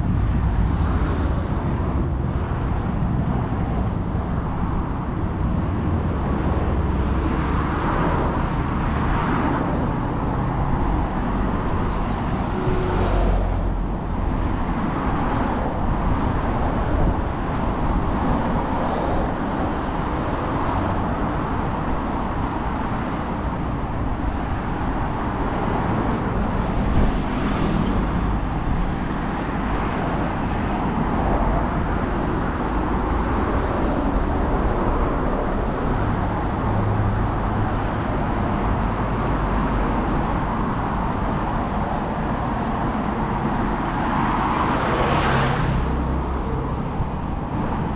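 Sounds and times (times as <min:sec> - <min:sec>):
vehicles passing on a road: 0:00.0 - 0:47.9.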